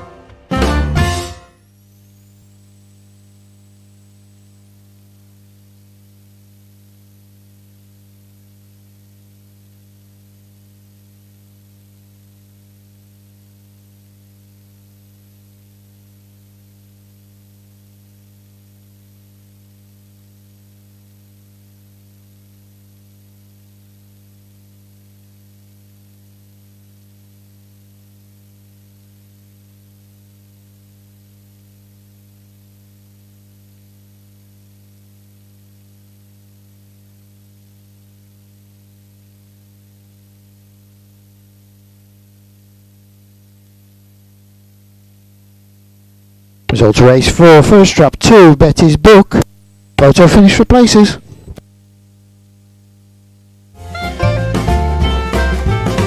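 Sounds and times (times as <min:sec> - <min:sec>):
electrical hum: 0:00.0 - 0:56.0.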